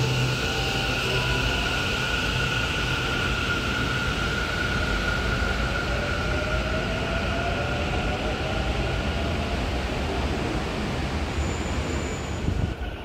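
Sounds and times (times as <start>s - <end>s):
electric train drive whine: 0.0s - 10.6s
train running noise: 0.0s - 13.0s.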